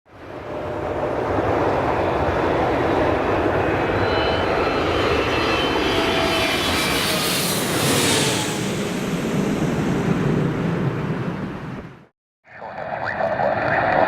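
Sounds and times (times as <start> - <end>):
jet engines running: 0.1 - 12.1.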